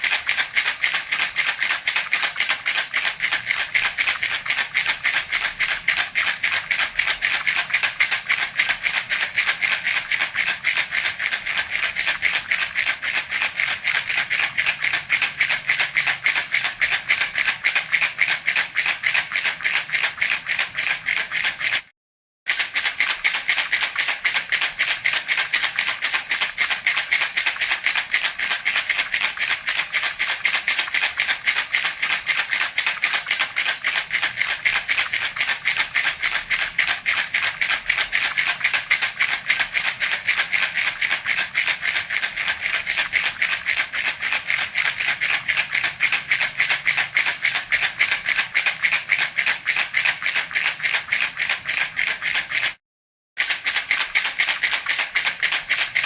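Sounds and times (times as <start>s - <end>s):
baby rattle shaken: 0.0s - 21.9s, 22.5s - 52.8s, 53.4s - 56.0s.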